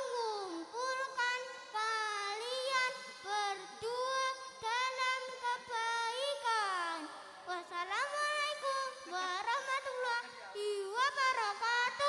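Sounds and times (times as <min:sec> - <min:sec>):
boy singing into a microphone: 0:00.0 - 0:12.0.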